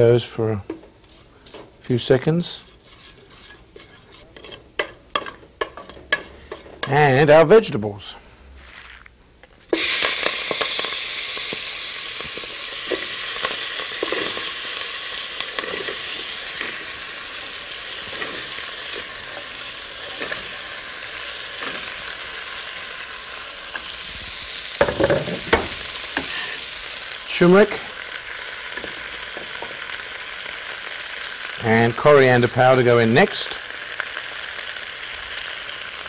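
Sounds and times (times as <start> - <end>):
vegetables sizzling in hot fat: 0.0 - 36.0.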